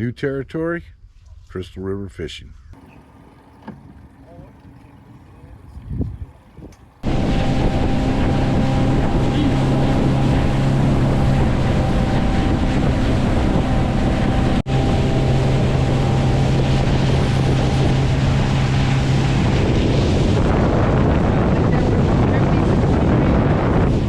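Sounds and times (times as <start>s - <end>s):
wind buffeting microphone: 2.5s - 24.0s
outboard motor running: 2.8s - 24.0s
water noise: 2.8s - 24.0s.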